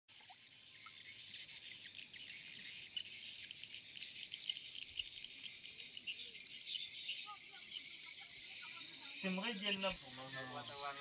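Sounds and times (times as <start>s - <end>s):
bird chirps: 0.2s - 11.0s
insects chirring: 0.2s - 11.0s.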